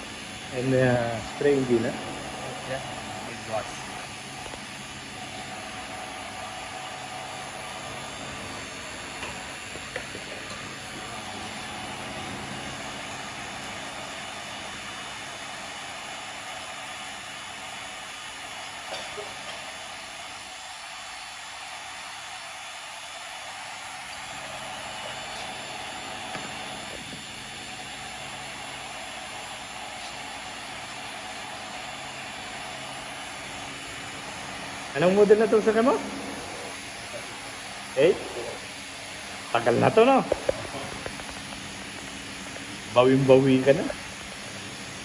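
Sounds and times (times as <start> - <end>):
low mechanical hum: 0.0 - 45.0
steady hissing noise: 0.0 - 45.0.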